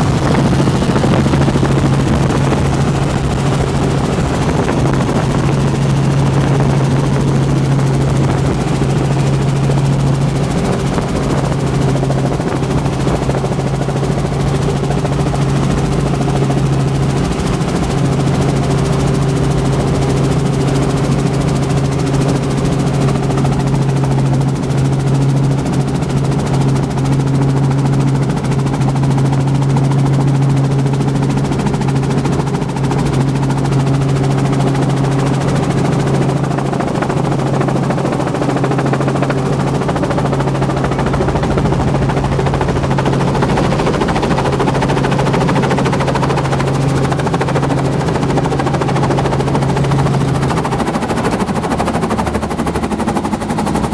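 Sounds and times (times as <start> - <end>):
helicopter engine hum: 0.0 - 53.9
helicopter rotor chop: 0.0 - 53.9.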